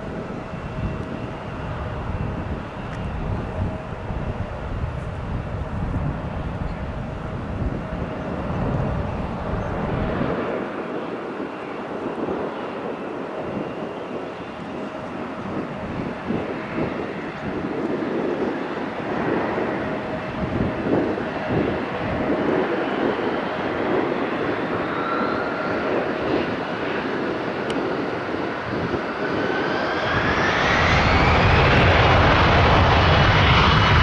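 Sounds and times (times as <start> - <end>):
jet engine rumble with whine: 0.0 - 34.0.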